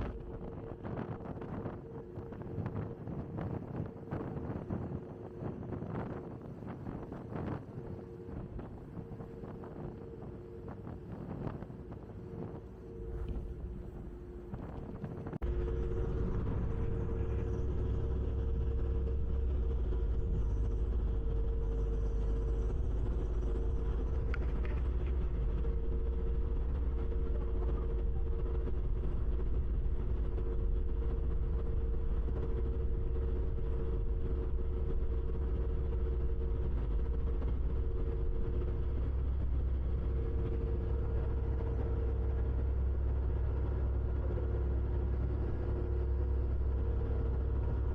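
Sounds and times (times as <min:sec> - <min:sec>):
ferry engines droning: 0:00.0 - 0:47.9.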